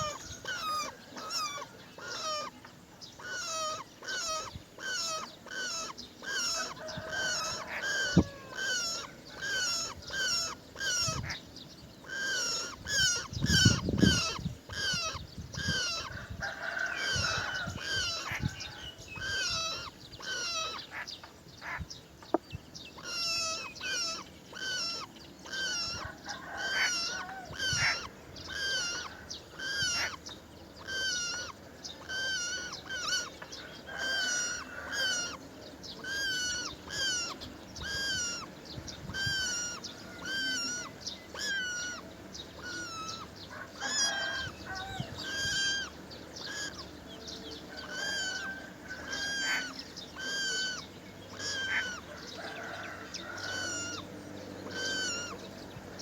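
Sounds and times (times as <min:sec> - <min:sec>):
bird calling: 0:00.0 - 0:56.0.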